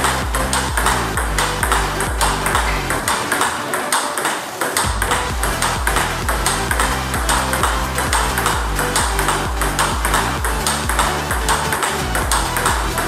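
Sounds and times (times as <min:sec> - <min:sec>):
electronic music with beat: 0:00.0 - 0:13.0.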